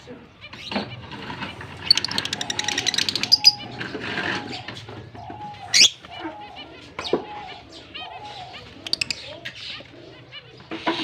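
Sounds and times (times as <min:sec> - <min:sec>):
lovebirds chirping: 0:00.0 - 0:11.0.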